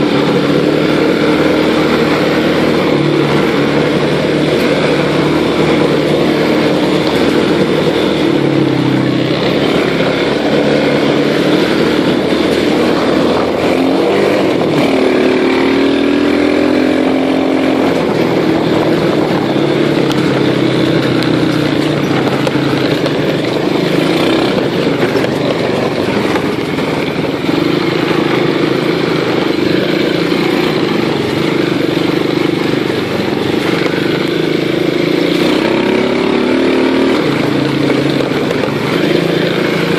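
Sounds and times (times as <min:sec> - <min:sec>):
small motor engine running: 0:00.0 - 0:39.9.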